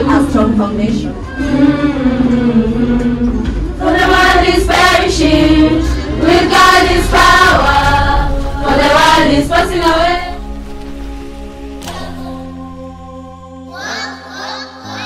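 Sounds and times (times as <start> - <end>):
choir singing with accompaniment: 0.0 - 15.0.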